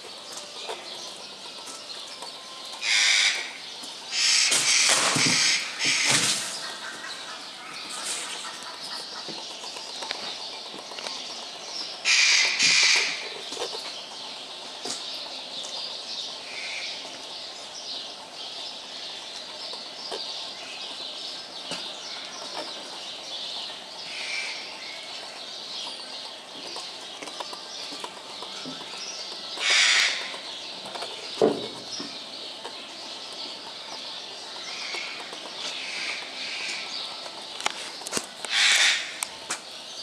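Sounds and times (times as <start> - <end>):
birds chirping in chorus: 0.0 - 40.0.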